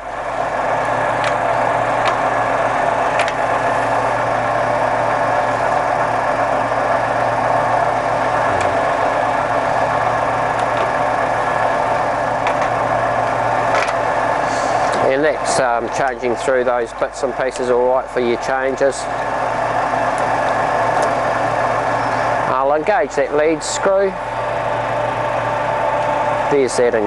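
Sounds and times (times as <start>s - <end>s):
lathe running: 0.0s - 27.0s.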